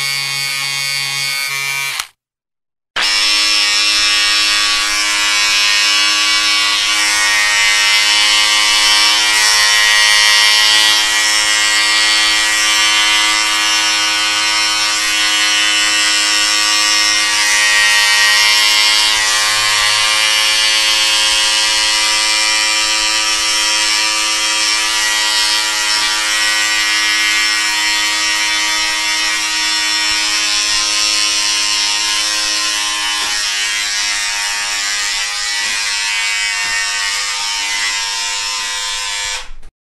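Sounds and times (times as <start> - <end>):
electric hair clipper cutting hair: 0.0 - 2.2, 3.0 - 39.6.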